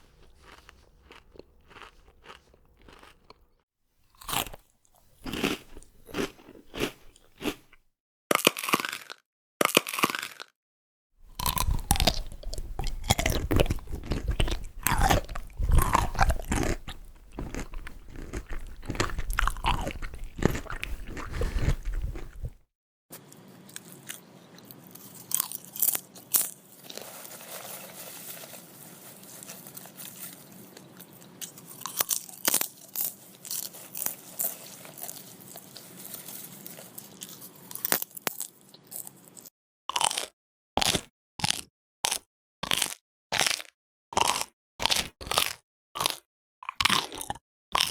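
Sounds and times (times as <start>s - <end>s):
crunchy food chewing: 0.0s - 10.5s, 11.2s - 22.6s, 23.7s - 28.5s, 29.1s - 47.9s.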